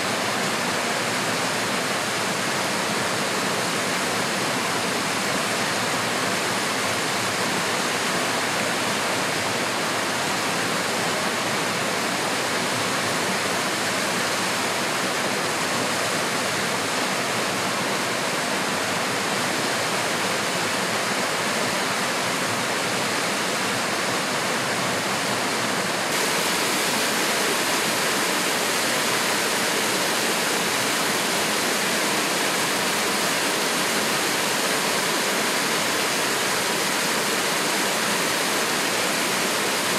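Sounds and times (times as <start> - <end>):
waterfall rushing over boulders: 0.0 - 39.9.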